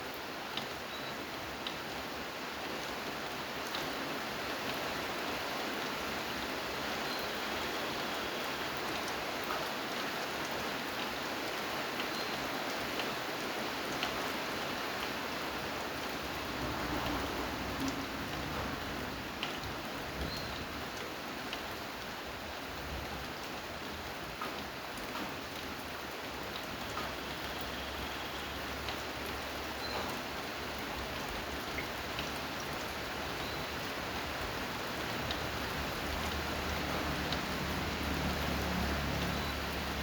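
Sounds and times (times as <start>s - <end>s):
steady rain pattering: 0.0s - 40.0s.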